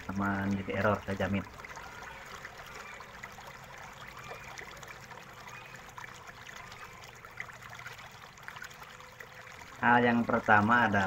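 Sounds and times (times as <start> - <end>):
light trickling: 0.0 - 11.0.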